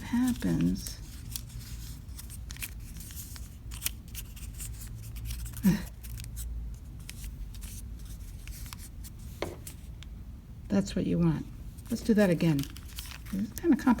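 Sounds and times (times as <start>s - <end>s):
paper crinkling and rustling: 0.0s - 10.0s, 11.8s - 14.0s.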